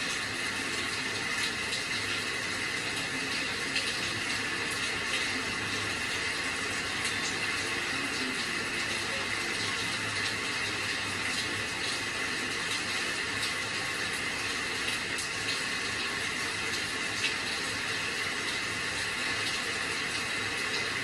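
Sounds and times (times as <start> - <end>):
rain drops ticking: 0.0 - 21.0
steady rainfall: 0.0 - 21.0.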